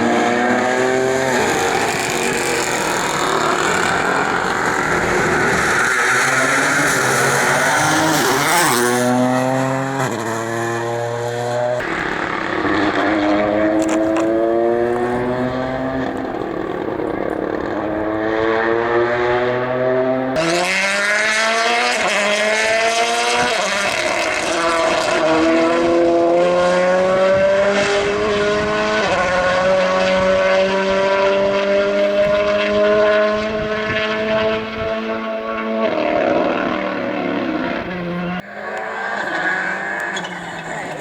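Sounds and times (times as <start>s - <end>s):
rally car engine at full throttle: 0.0s - 41.0s.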